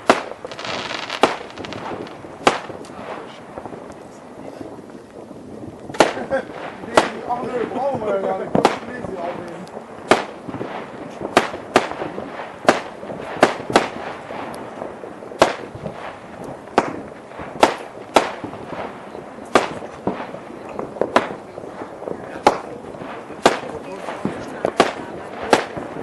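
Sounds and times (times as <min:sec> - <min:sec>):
continuous crackling: 0:00.0 - 0:26.0
firework bangs: 0:00.0 - 0:26.0.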